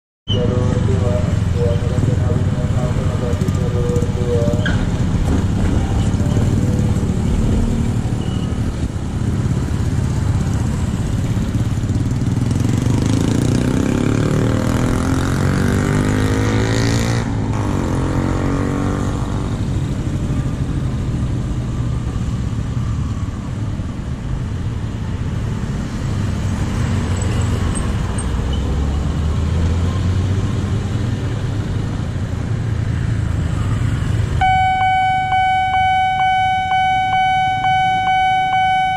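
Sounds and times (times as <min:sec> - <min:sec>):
motorcycles and cars passing: 0:00.4 - 0:38.9.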